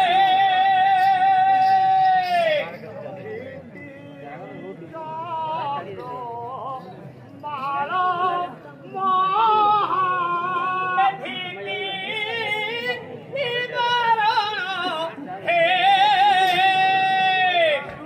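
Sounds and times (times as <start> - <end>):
man singing with vibrato: 0.0 - 18.0.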